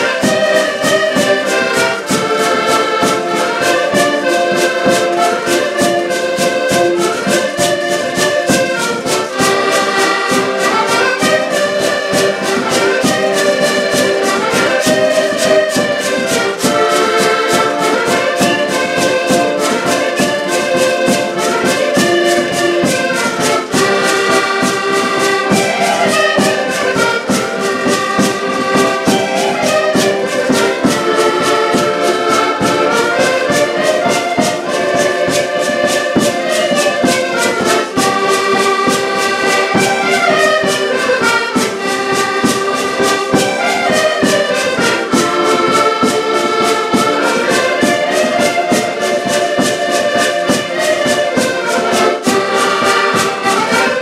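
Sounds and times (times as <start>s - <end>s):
button accordions playing a tune: 0.0s - 54.0s.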